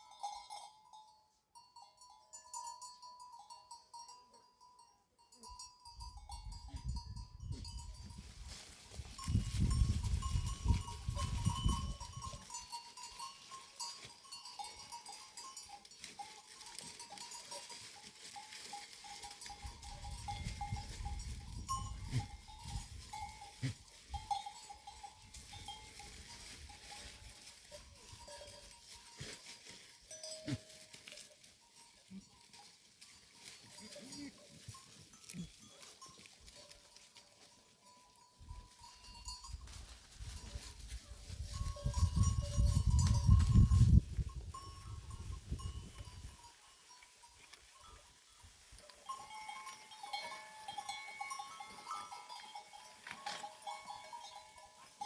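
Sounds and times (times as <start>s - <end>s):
clinking neck bells: 0.0s - 40.7s, 41.4s - 55.0s.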